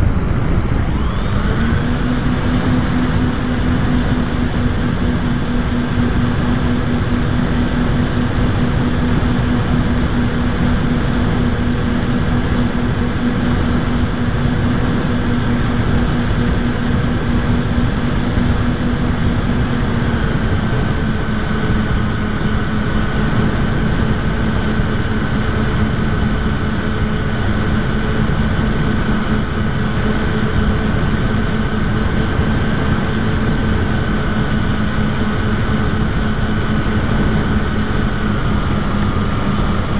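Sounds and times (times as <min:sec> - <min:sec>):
thin high whine: 0:00.0 - 0:39.9
model plane motor humming: 0:00.4 - 0:39.9.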